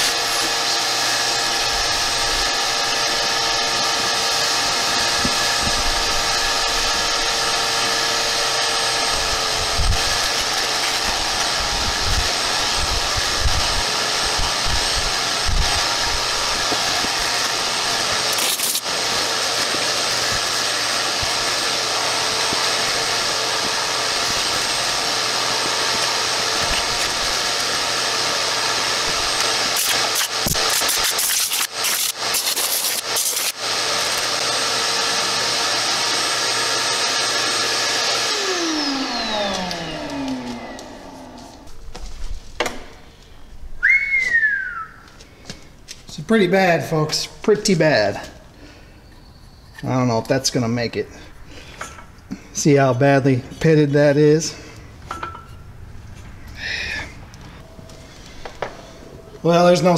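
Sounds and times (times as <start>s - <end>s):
shop vacuum running: 0.0s - 43.2s, 43.8s - 49.2s, 49.8s - 59.9s.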